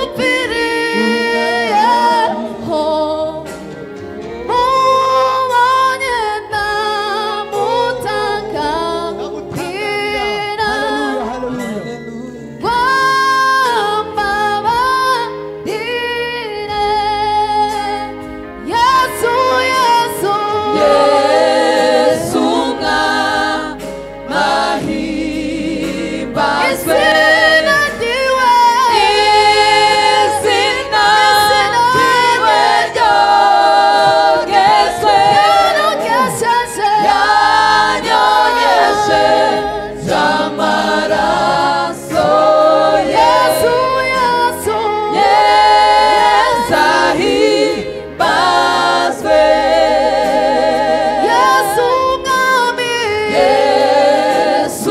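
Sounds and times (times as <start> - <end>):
choir singing in harmony: 0.0 - 54.9.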